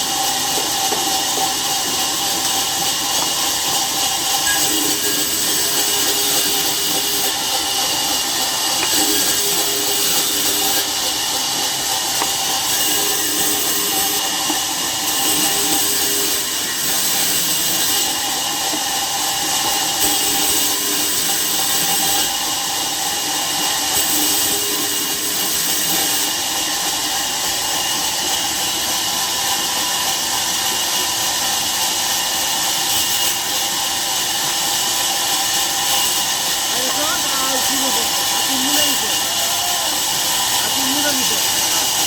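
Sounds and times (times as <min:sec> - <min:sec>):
sawmill machinery hiss: 0:00.0 - 0:42.0.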